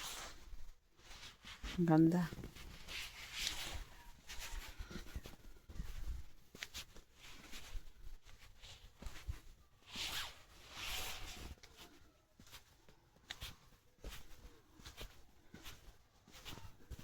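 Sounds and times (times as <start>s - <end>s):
faint footsteps: 0.0s - 17.0s
rustling: 0.0s - 17.0s.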